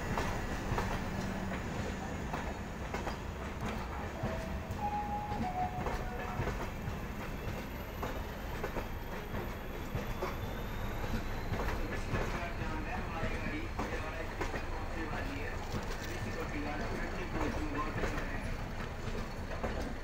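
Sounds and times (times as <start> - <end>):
train wheels clacking over rail joints: 0.0 - 20.0.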